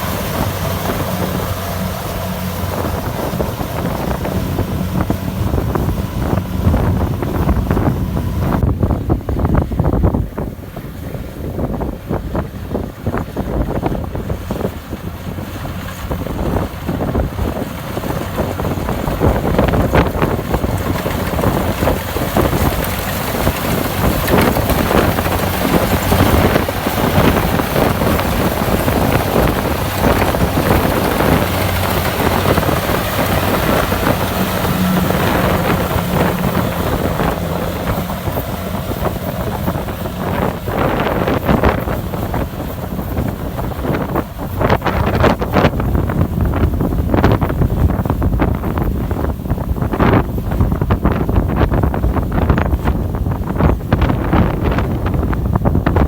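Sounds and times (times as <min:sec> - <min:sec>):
combine harvester running: 0:00.0 - 0:56.0
wind noise on microphone: 0:00.0 - 0:56.0.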